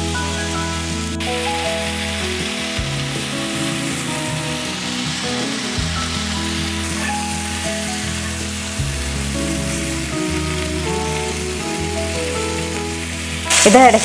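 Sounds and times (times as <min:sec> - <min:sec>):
chicken sizzling in a grill pan: 0:00.0 - 0:14.0
music of slow held chords: 0:00.0 - 0:14.0.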